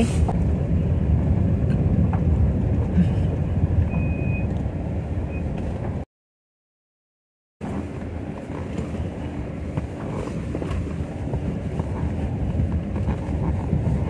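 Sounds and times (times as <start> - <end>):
car road and wind rumble: 0.0 - 6.1, 7.6 - 14.0.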